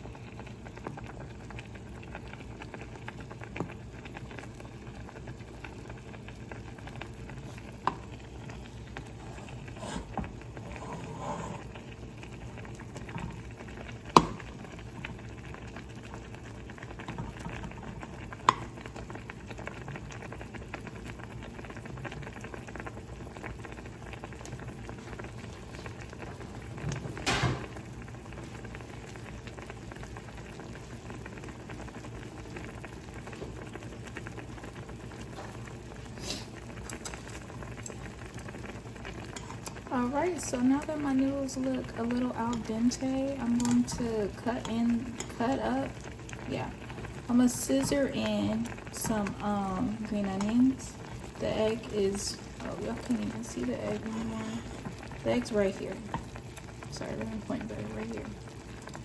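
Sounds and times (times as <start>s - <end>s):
pot simmering bubbling: 0.0s - 59.0s.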